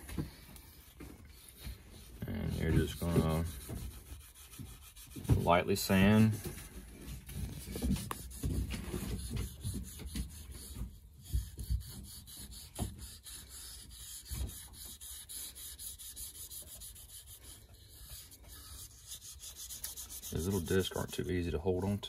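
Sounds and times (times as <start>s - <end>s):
hand sanding strokes: 0.1s - 22.0s.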